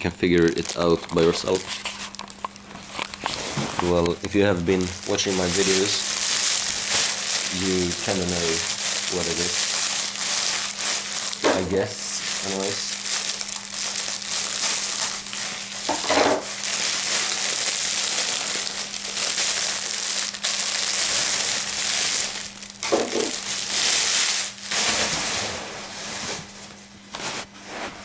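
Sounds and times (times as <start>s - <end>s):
plastic bag crinkling: 0.0s - 26.4s.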